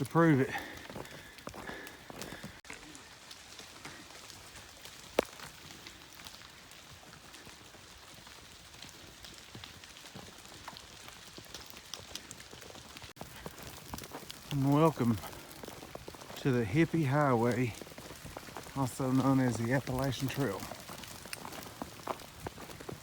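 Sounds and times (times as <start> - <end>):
ice and water dripping from trees: 0.0 - 23.0.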